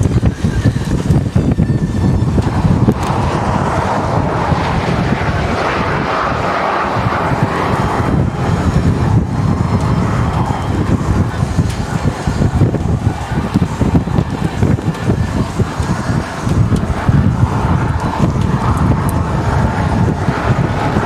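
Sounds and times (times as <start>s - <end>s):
wind buffeting microphone: 0.0s - 21.0s
steady roar: 1.1s - 21.0s.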